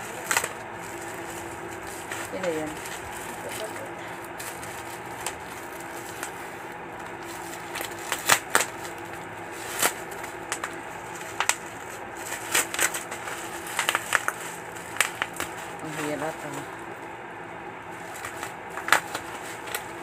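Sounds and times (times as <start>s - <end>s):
plastic mailer and bubble wrap crinkling: 0.0s - 17.2s, 17.8s - 20.0s.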